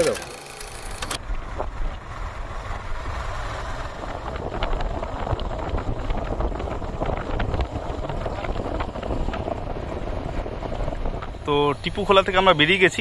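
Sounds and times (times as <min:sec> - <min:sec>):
motorcycle engine rumbling: 0:00.0 - 0:13.0
wind buffeting microphone: 0:00.9 - 0:13.0.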